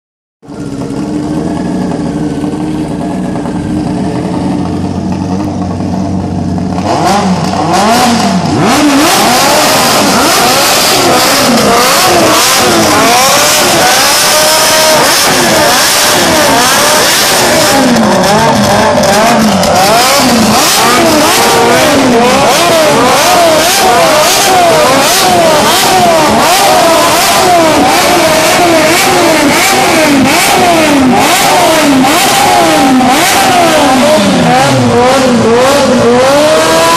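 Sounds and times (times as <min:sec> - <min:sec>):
motorcycle engine revving: 0:00.4 - 0:36.9.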